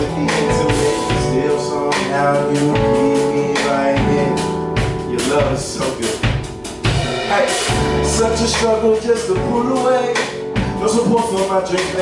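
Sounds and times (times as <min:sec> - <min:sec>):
person singing: 0:00.0 - 0:06.3, 0:07.2 - 0:12.0
live band playing: 0:00.0 - 0:12.0.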